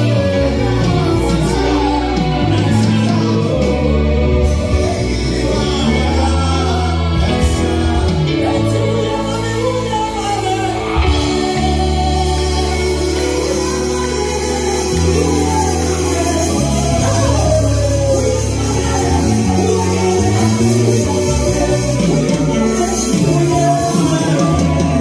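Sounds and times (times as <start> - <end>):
keyboard and bass guitar band: 0.0 - 25.0
man singing: 0.0 - 25.0
woman singing: 0.0 - 25.0.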